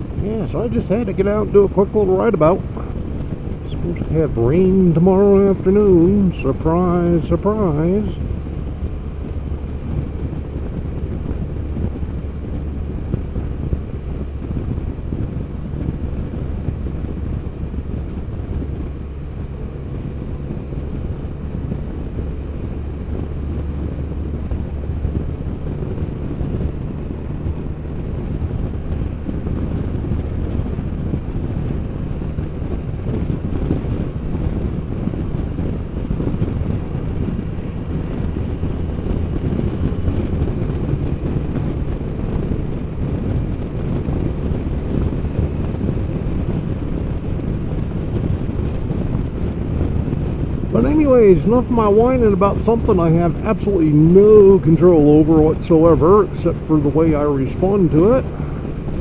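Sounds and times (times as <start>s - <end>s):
motorcycle engine humming: 0.0s - 59.0s
wind rushing over microphone: 0.0s - 59.0s.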